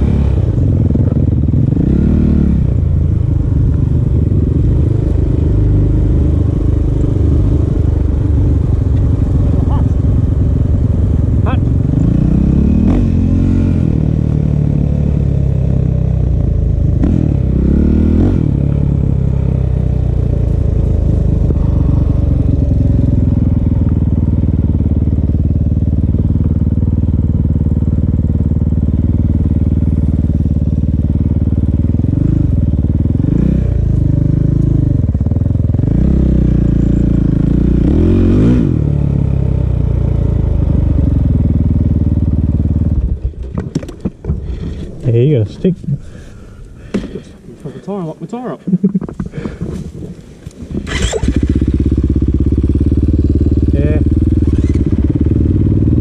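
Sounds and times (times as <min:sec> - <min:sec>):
dirt bike engine running: 0:00.0 - 0:47.0, 0:48.4 - 0:56.0.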